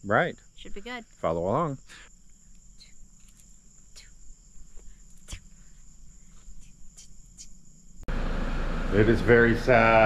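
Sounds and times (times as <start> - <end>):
crickets trilling: 0.0 - 8.1.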